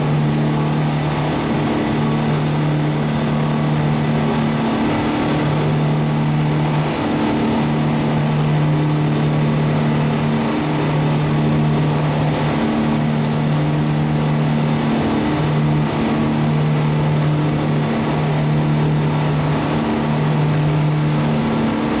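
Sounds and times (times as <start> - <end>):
boat engine drone: 0.0 - 22.0.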